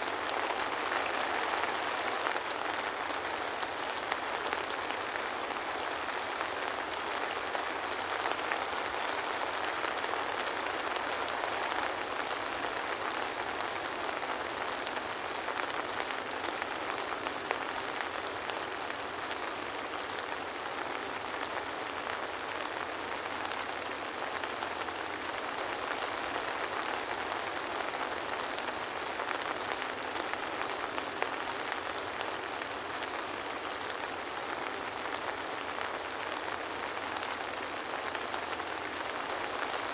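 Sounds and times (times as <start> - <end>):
soft rain hiss: 0.0 - 39.9.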